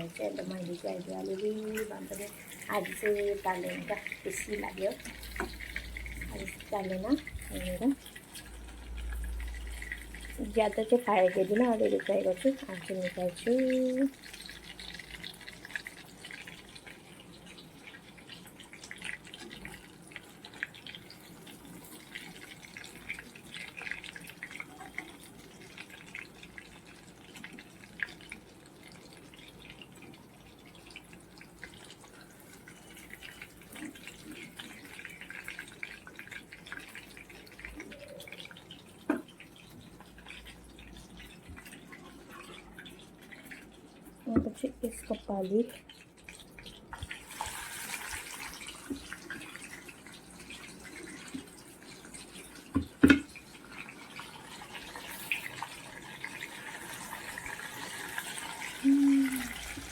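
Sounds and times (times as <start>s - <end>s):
fish frying in hot oil: 0.0s - 59.9s.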